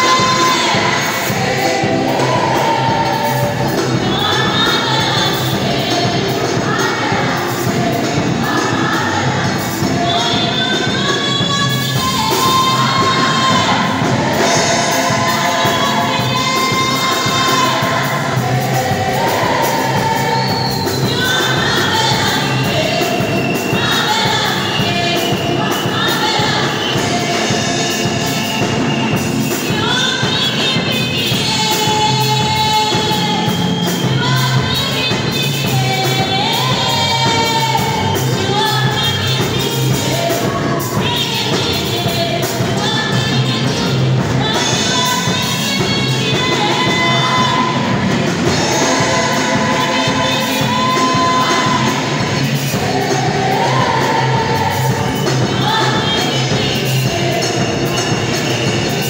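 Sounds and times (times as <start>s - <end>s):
drums: 0.0s - 59.0s
group of singers: 0.0s - 59.0s
woman singing into a microphone: 0.0s - 59.0s.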